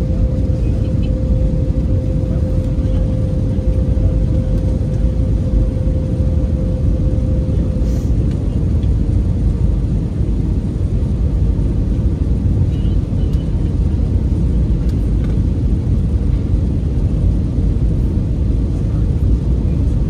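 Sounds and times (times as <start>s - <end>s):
jet engines rumbling in cabin: 0.0s - 20.0s
steady hum: 0.0s - 20.0s.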